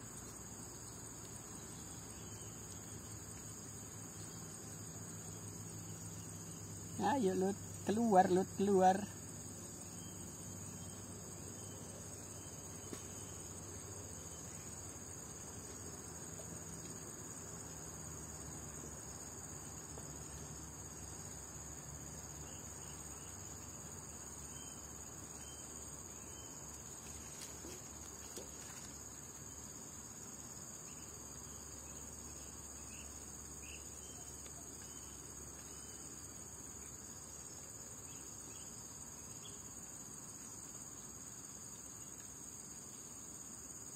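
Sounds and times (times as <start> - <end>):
insect chorus drone: 0.0 - 43.9.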